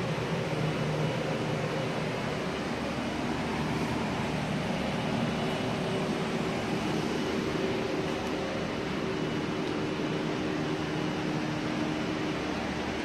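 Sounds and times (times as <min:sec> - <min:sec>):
ventilation hum and rush: 0:00.0 - 0:13.0.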